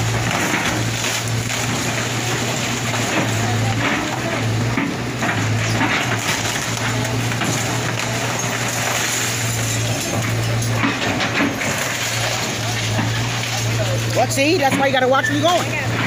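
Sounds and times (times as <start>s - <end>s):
debris crunching and cracking: 0.0s - 16.0s
excavator engine droning: 0.0s - 16.0s.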